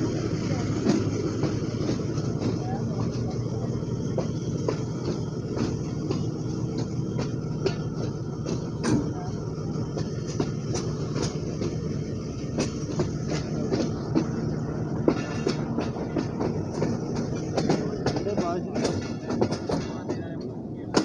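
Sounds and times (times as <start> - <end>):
locomotive engine drone: 0.0 - 21.0
wheels clicking over rail joints: 0.0 - 21.0.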